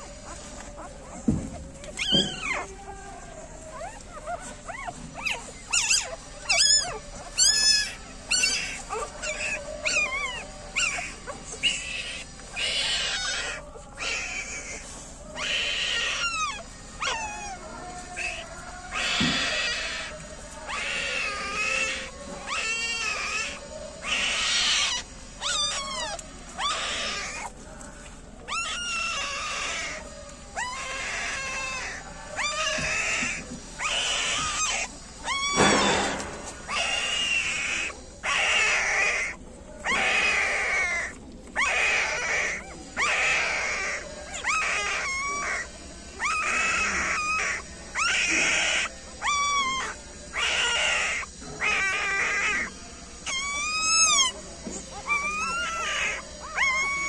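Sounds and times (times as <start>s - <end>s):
newborn puppies crying: 0.0s - 57.0s.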